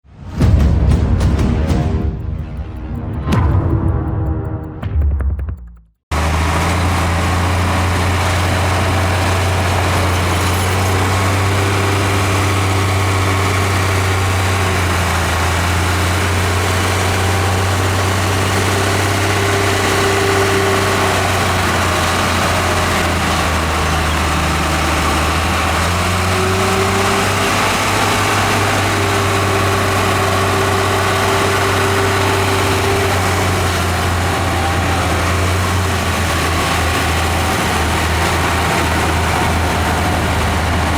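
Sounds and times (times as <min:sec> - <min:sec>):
heavy diesel engine humming: 0:06.1 - 0:40.9.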